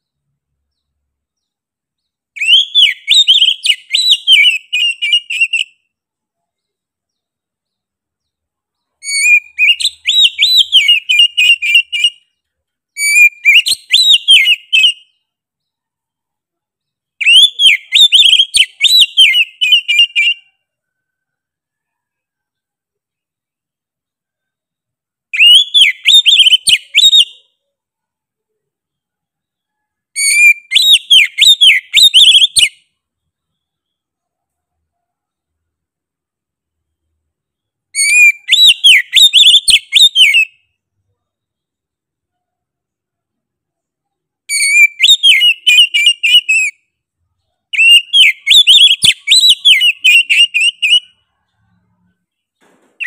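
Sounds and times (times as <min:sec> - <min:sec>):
bird singing whistled notes: 0:00.0 - 0:16.2, 0:16.8 - 0:23.2, 0:24.2 - 0:27.7, 0:28.9 - 0:34.2, 0:36.9 - 0:40.8, 0:44.4 - 0:51.6.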